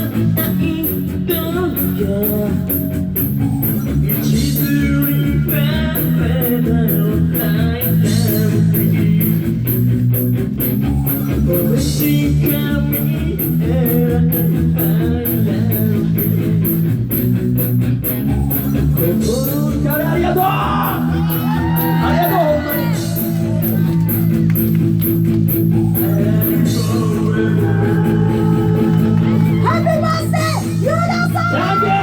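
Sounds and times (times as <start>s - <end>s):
fast cymbal beat: 0.0s - 31.7s
live rock band: 0.0s - 32.0s.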